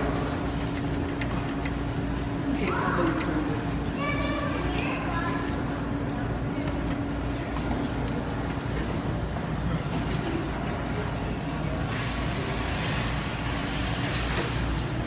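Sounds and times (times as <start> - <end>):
faint indistinct voices: 0.0 - 15.0
low rumble of arcade room: 0.0 - 15.0.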